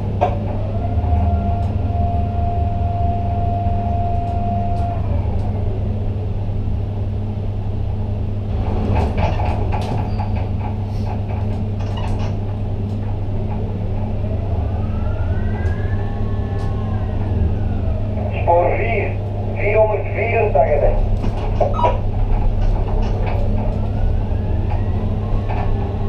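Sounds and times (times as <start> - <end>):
crane drives humming: 0.0 - 26.0.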